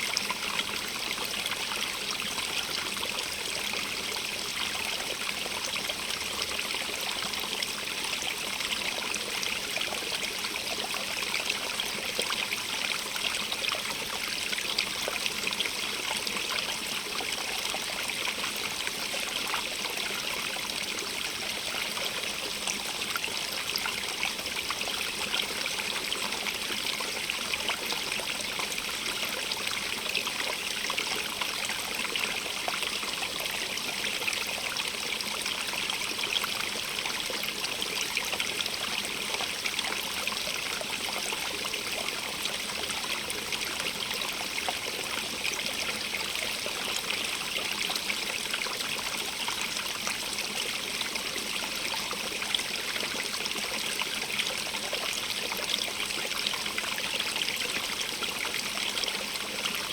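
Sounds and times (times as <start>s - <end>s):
water trickling in stream: 0.0s - 59.9s.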